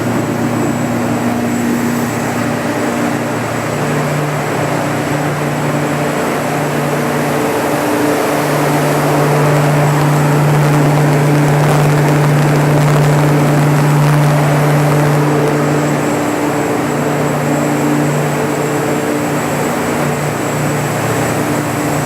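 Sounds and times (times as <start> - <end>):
diesel generator humming: 0.0 - 22.0.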